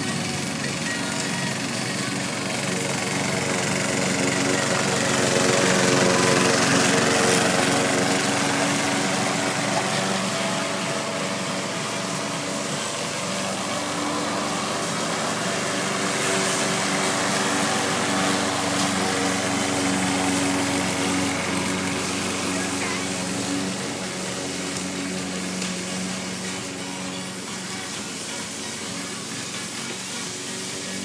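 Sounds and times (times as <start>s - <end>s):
lawn mower engine running: 0.0s - 31.0s.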